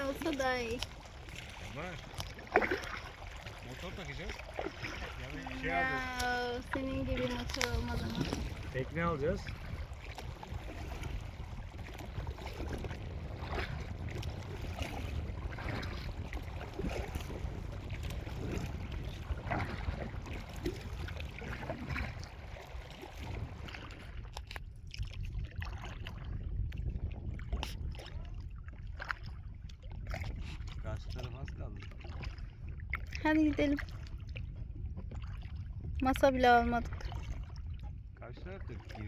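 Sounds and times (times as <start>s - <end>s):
kayak paddle splashing in water: 0.0s - 37.9s
wind rumble on microphone: 0.0s - 39.0s.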